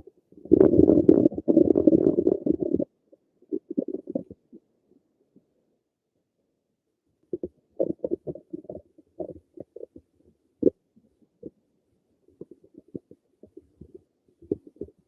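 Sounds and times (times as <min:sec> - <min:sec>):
stomach gurgling: 0:00.0 - 0:04.8, 0:07.2 - 0:15.0.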